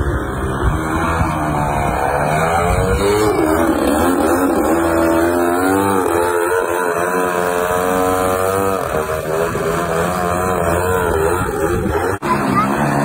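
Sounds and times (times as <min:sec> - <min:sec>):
model plane motor and propeller: 0:00.0 - 0:13.0.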